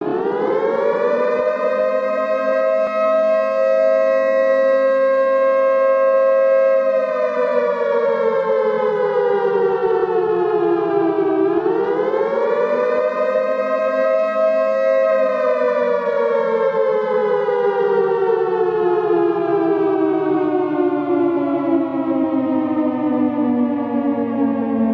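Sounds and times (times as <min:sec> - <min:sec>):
two-note warning siren wailing: 0:00.0 - 0:24.9.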